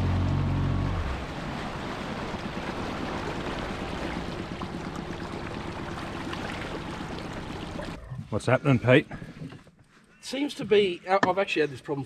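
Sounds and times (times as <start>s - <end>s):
outboard motor idling: 0.0s - 9.9s
water lapping against metal hull: 0.9s - 11.8s.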